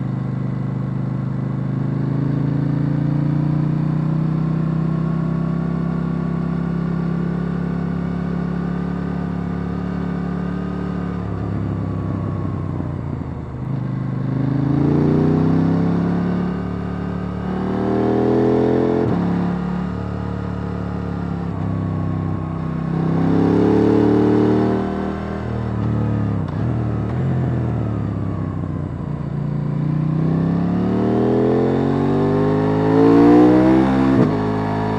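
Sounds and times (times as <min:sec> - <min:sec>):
motorcycle engine revving: 0:05.7 - 0:34.9.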